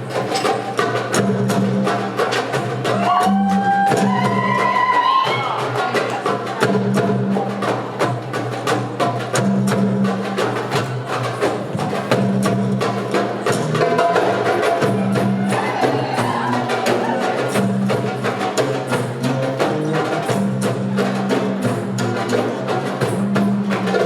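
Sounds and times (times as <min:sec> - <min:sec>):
hand drums playing fast rhythm: 0:00.0 - 0:24.0.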